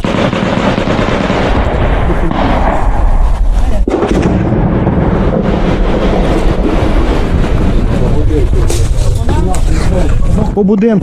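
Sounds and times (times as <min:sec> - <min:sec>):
heavy gunfire: 0:00.0 - 0:09.5
explosions: 0:00.0 - 0:10.3.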